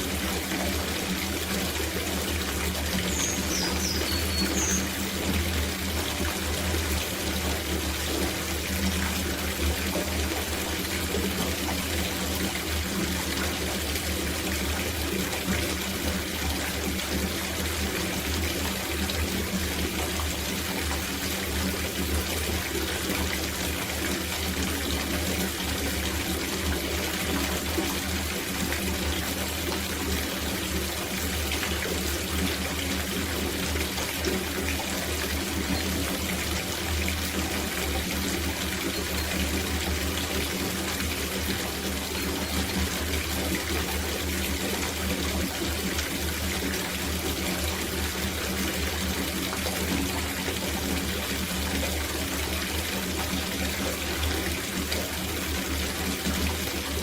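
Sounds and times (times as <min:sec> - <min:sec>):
water pouring into a bathtub: 0:00.0 - 0:57.0.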